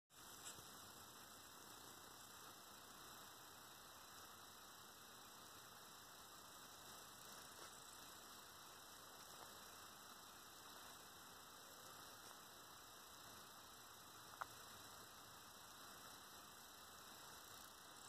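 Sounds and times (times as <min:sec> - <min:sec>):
faint ticks: 0:00.2 - 0:18.0.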